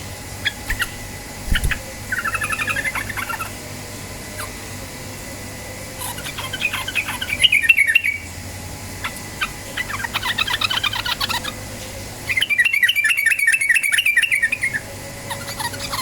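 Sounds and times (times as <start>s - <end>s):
bird chattering song: 0.4s - 3.7s, 4.3s - 4.6s, 6.0s - 8.4s, 9.0s - 16.0s.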